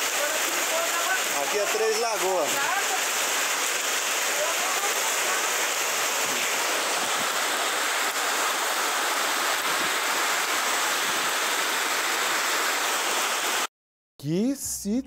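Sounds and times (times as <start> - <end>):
heavy rain and floodwater rushing: 0.0 - 13.7.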